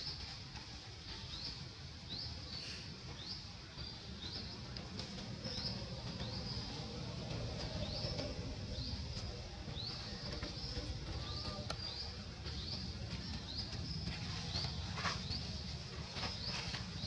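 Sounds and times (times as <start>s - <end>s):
bird chirping: 1.1s - 17.0s.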